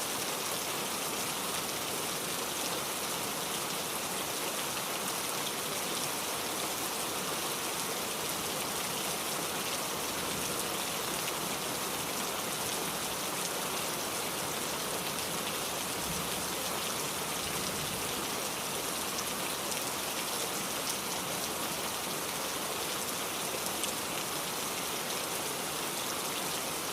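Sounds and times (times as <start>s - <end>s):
steady rain pattering: 0.0s - 26.9s.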